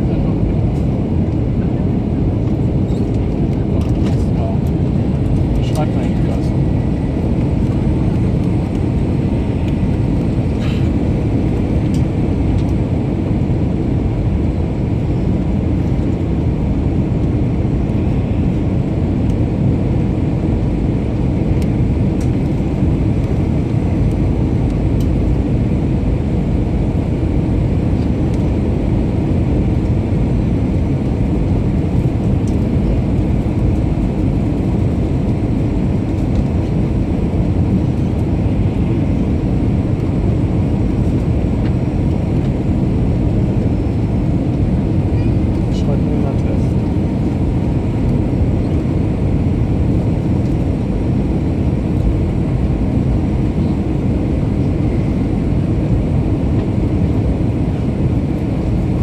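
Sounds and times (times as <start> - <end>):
airplane cabin engine roar: 0.0 - 59.0.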